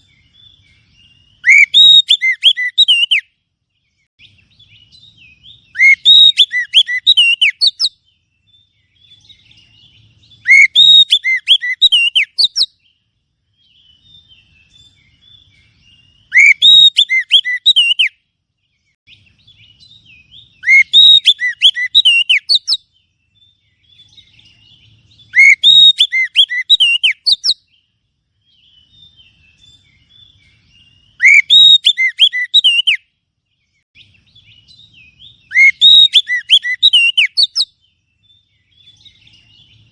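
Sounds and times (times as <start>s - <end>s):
bird whistled song: 0.0s - 39.9s
soft bird chatter: 0.0s - 39.9s.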